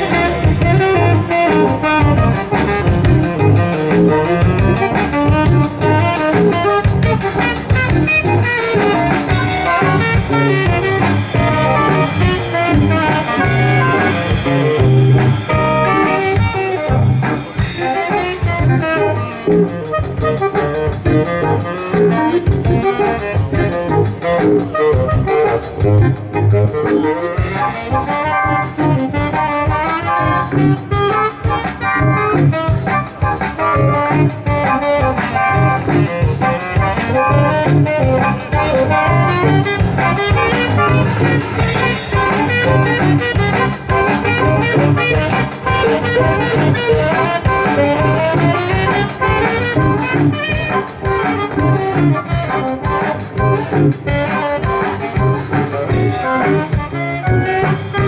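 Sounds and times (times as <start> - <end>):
band playing live music: 0.0 - 58.0.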